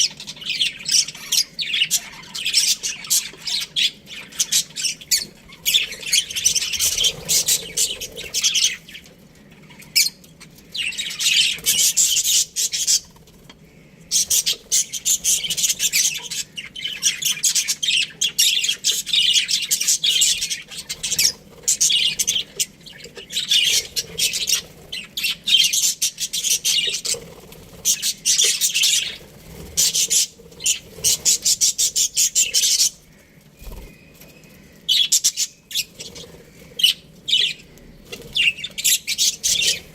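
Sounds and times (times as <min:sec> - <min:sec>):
budgerigars chattering: 0:00.0 - 0:13.2, 0:14.0 - 0:34.0, 0:34.6 - 0:39.9.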